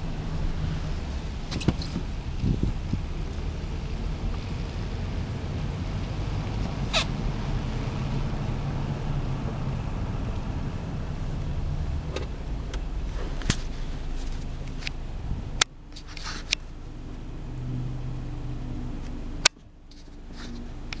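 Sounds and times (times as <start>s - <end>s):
car rumbling: 0.0s - 21.0s.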